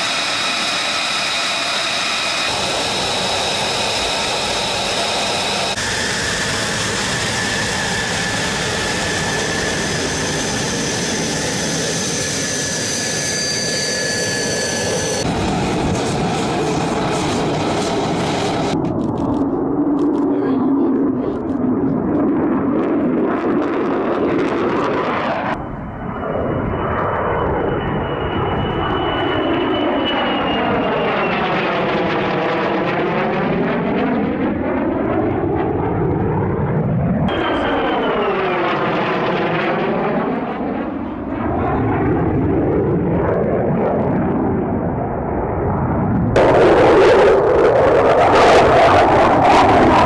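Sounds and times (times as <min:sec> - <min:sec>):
jet engine roaring past: 0:00.0 - 0:50.0.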